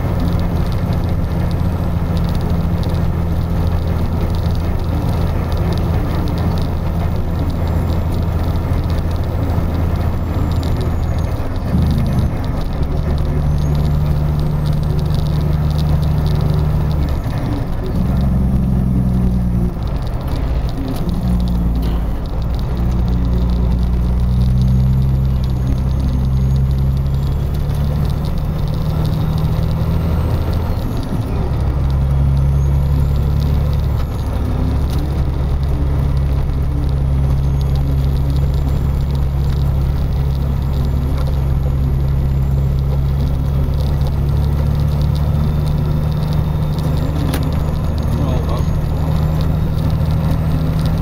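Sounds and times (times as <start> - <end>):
car engine hum: 0.0 - 51.0
tyres on snowy road: 0.0 - 51.0.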